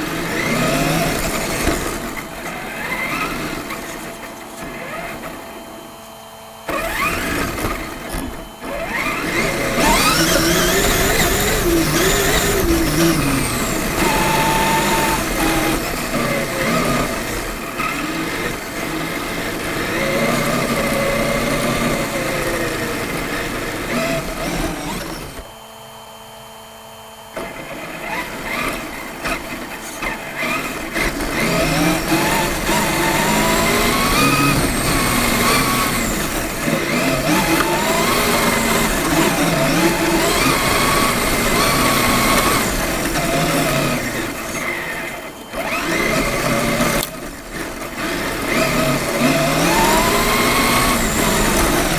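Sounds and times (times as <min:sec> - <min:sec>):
rc truck motor whining: 0:00.0 - 0:51.9.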